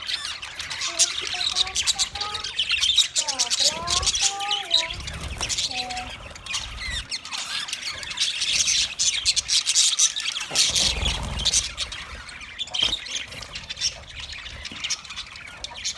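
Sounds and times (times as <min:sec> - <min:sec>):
budgerigars chattering: 0:00.0 - 0:15.9.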